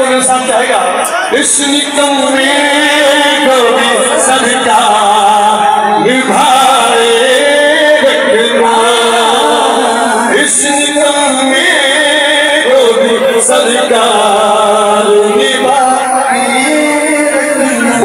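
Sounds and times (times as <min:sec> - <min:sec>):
man singing a slow chant: 0:01.3 - 0:18.0.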